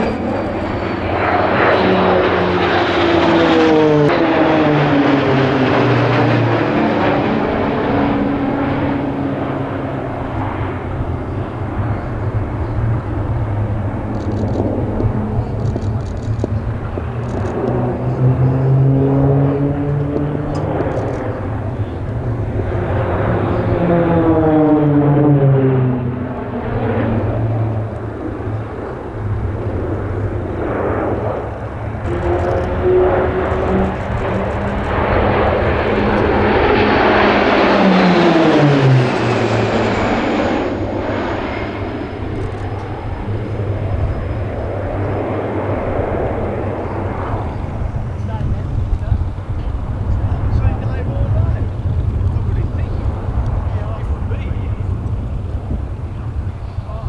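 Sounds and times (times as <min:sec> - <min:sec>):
propeller aircraft flying past: 0:00.0 - 0:57.0.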